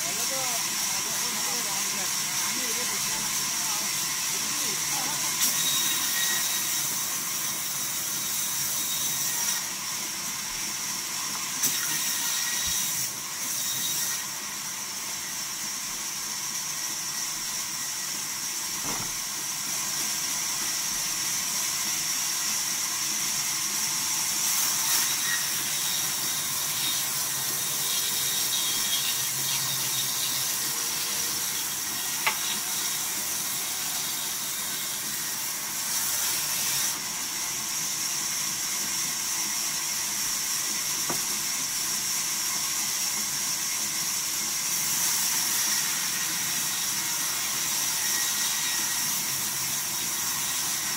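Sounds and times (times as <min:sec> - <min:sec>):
band saw cutting log: 0:00.0 - 0:50.9.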